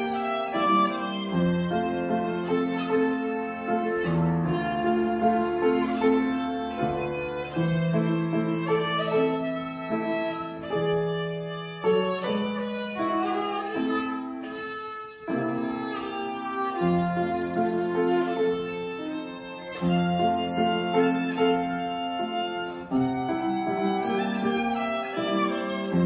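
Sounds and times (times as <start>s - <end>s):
piano accompaniment: 0.0s - 26.0s
violin melody: 0.0s - 26.0s.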